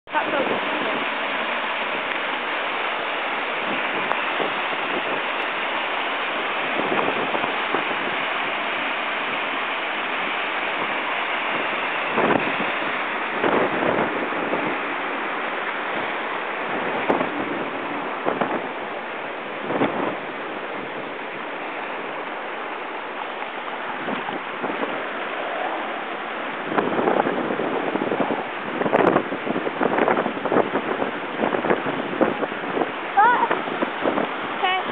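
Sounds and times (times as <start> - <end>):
water rushing: 0.0 - 34.9
wind buffeting microphone: 0.1 - 34.9.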